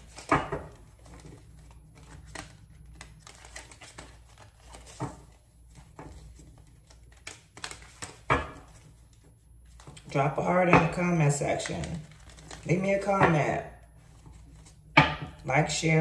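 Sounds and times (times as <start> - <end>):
cards being shuffled: 0.0 - 10.1, 11.0 - 13.4, 14.0 - 14.8.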